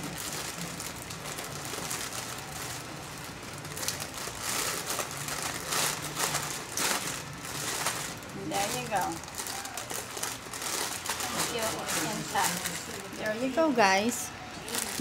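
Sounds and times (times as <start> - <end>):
plastic bag crinkling: 0.0 - 13.8, 14.6 - 15.0.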